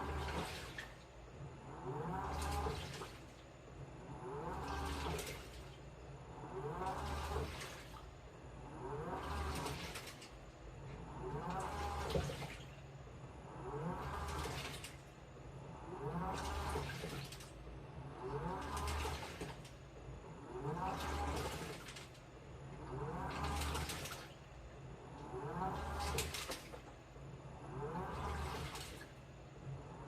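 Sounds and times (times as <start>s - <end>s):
water and clothes sloshing: 0.0s - 8.2s, 8.8s - 12.8s, 13.6s - 15.2s, 15.9s - 17.6s, 18.2s - 19.8s, 20.4s - 24.5s, 25.2s - 27.0s, 27.6s - 29.3s
washing machine motor whining: 0.0s - 30.0s.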